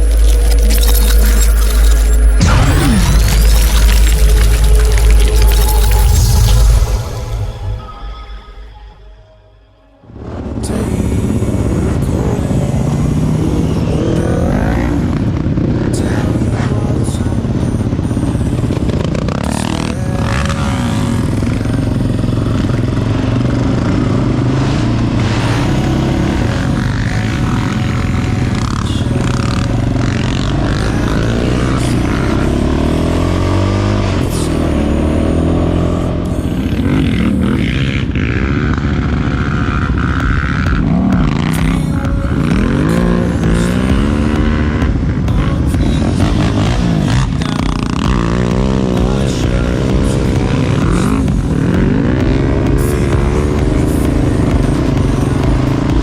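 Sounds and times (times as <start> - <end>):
quad bike engine revving: 0.0 - 6.4, 10.2 - 56.0.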